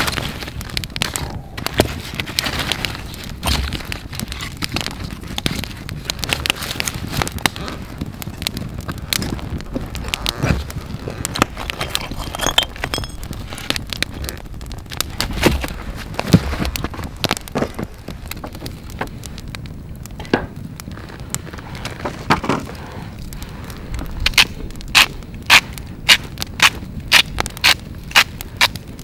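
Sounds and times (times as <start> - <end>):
campfire crackling and popping: 0.0 - 29.0
fire low hiss: 0.0 - 29.0.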